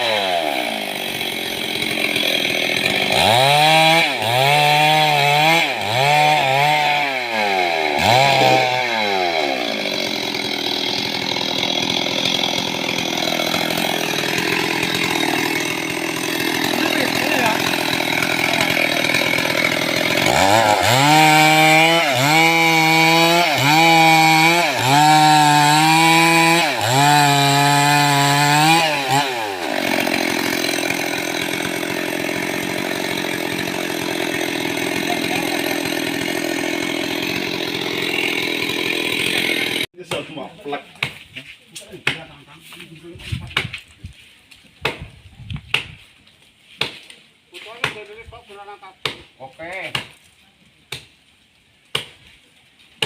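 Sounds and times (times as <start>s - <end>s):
chainsaw cutting wood: 0.0s - 42.4s, 43.3s - 48.4s, 49.0s - 50.3s, 51.9s - 52.3s.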